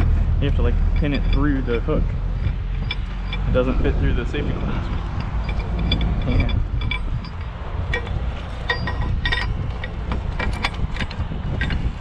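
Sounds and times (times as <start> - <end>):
chain and hook clinking: 0.0 - 12.0
low steady rumble: 0.0 - 12.0.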